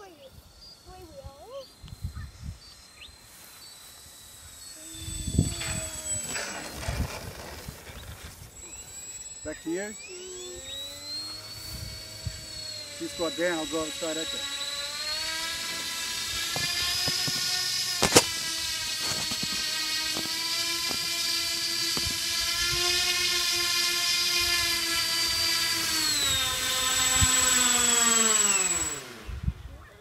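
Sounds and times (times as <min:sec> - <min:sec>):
electric motors and propellers whining: 0:00.0 - 0:30.0.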